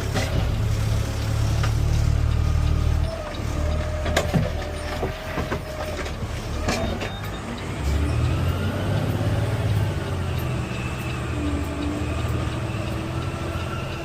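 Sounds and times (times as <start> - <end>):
garbage truck engine rumbling: 0.0 - 14.0.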